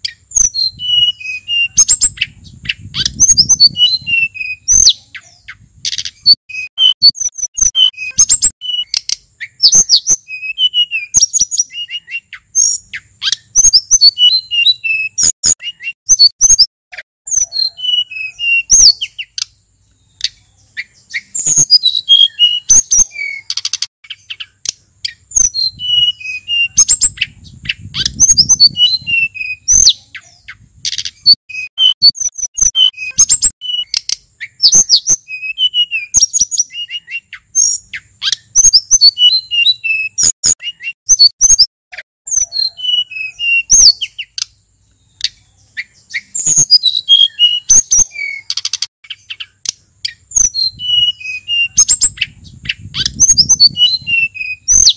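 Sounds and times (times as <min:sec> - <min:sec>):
bird chirps and whistles: 0:00.0 - 0:41.7, 0:42.3 - 0:54.9.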